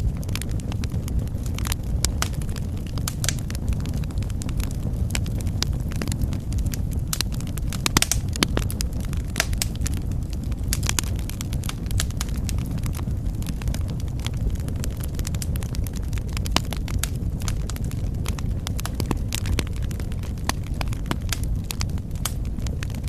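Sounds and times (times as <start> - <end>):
low fire rumble: 0.0 - 23.0
wood fire crackling and popping: 0.0 - 23.0.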